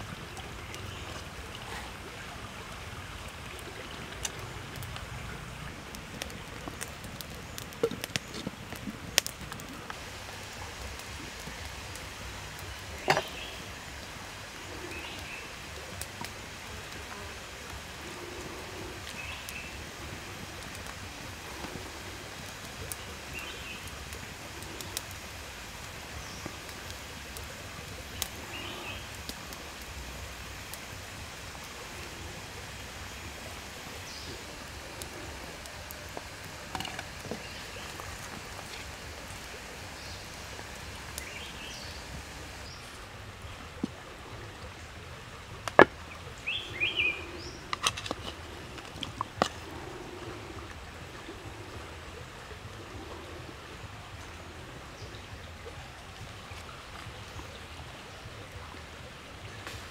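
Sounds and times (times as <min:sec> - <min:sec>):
soup simmering hiss: 0:00.0 - 0:59.9.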